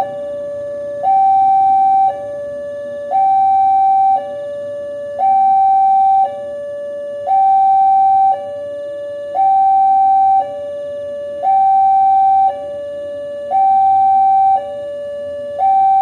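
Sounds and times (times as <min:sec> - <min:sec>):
level crossing warning alarm: 0:00.0 - 0:16.0.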